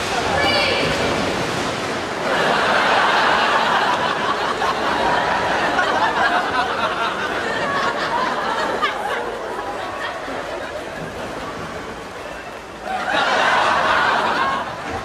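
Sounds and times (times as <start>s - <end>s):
crowd laughing: 2.1s - 15.0s.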